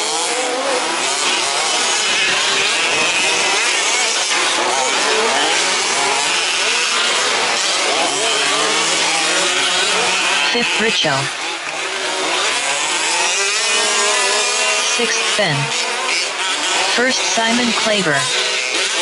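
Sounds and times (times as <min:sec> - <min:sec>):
two-stroke engines revving: 0:00.0 - 0:19.0.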